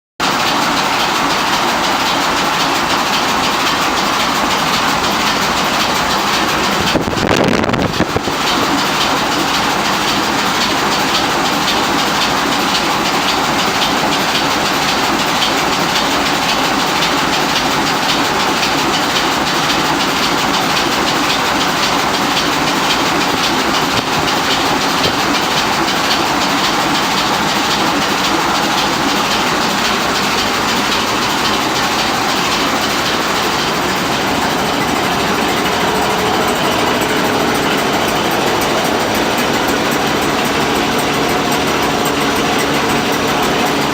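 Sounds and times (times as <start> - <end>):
engine running with even clatter: 0.2 - 43.9.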